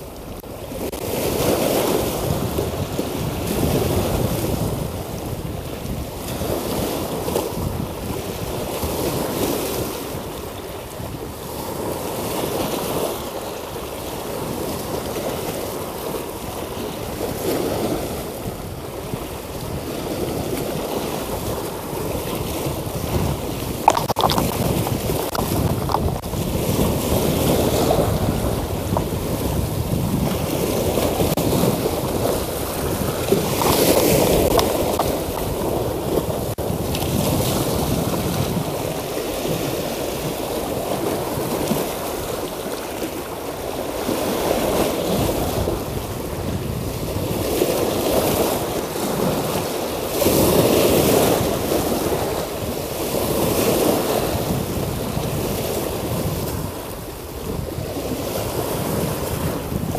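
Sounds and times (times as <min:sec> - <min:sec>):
waves washing against rocks: 0:00.0 - 0:59.9
wind buffeting microphone: 0:00.0 - 0:59.9.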